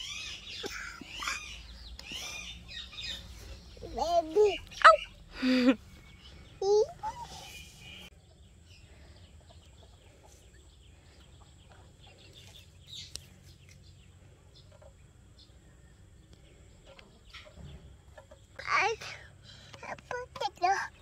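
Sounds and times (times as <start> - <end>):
faint bird chirps: 0.0 - 20.1.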